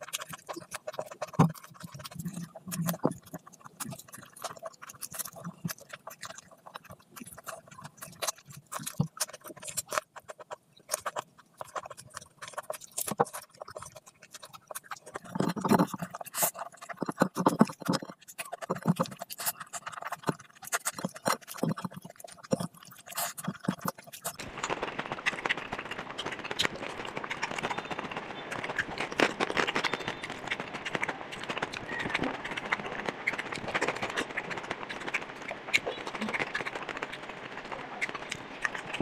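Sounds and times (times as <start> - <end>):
chewing and lip smacking: 0.0 - 24.5, 25.2 - 39.0.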